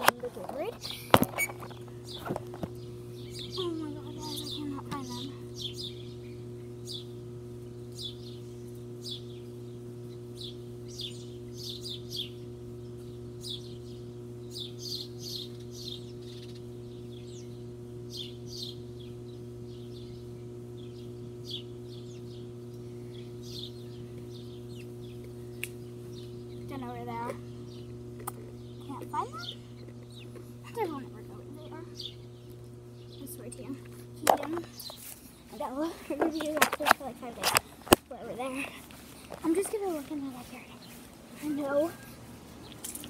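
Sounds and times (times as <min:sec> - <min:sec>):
small birds chirping: 0:00.0 - 0:43.0
steady low hum: 0:00.0 - 0:43.0.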